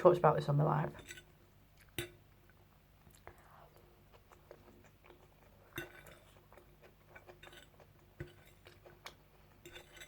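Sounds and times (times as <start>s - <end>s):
person chewing: 1.8s - 10.0s.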